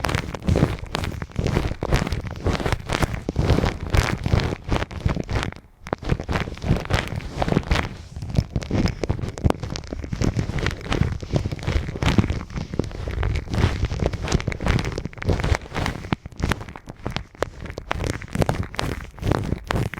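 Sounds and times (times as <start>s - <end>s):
hands rubbing on microphone: 0.0s - 19.9s.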